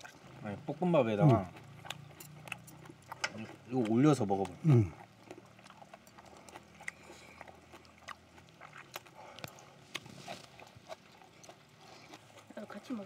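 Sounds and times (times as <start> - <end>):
wet chewing mouth clicks: 0.0 - 13.0.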